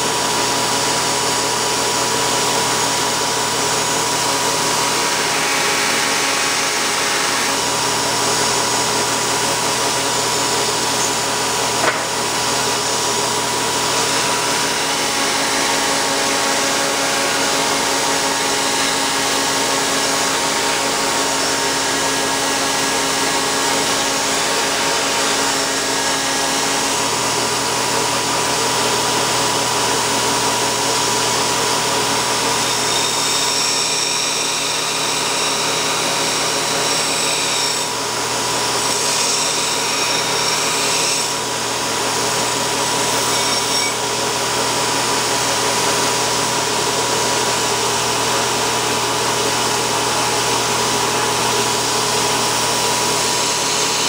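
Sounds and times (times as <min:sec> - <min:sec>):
belt grinder grinding metal: 0:03.6 - 0:27.5, 0:31.5 - 0:47.4, 0:49.5 - 0:54.0.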